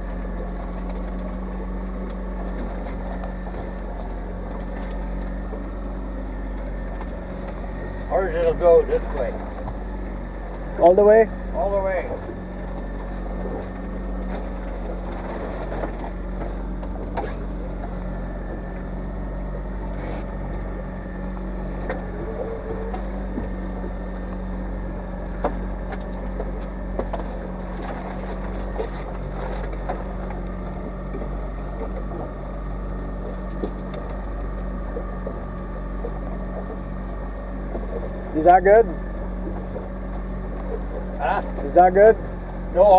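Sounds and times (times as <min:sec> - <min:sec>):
boat engine humming: 0:00.0 - 0:42.9.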